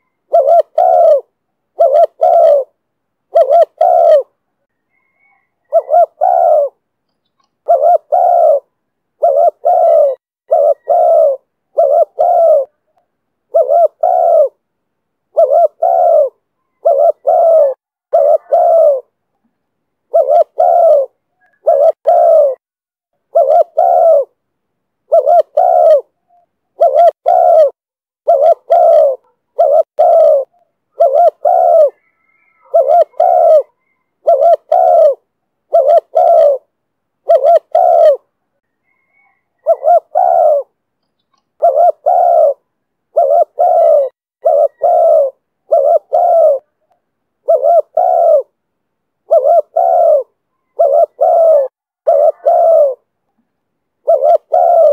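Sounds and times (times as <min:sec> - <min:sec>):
dove cooing: 0:00.0 - 0:14.6, 0:15.3 - 0:19.2, 0:20.1 - 0:22.6, 0:23.2 - 0:24.4, 0:25.0 - 0:48.6, 0:49.2 - 0:53.1, 0:54.0 - 0:54.9.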